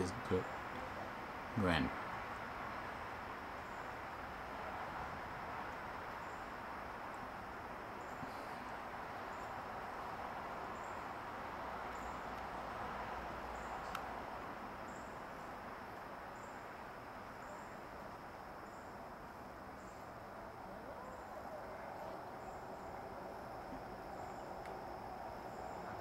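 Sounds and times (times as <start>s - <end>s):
insect chirps: 0.0s - 26.0s
low background hiss: 0.0s - 26.0s
high insect trill: 1.4s - 26.0s.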